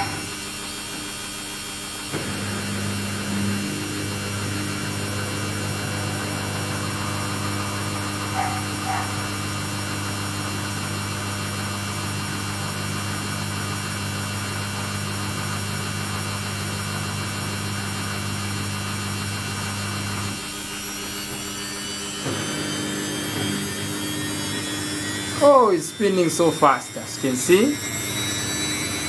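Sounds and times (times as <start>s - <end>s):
washing machine humming: 0.0s - 29.0s.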